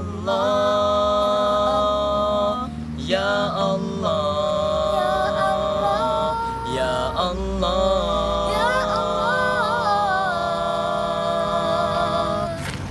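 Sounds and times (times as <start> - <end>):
boys singing a cappella: 0.0 - 12.9.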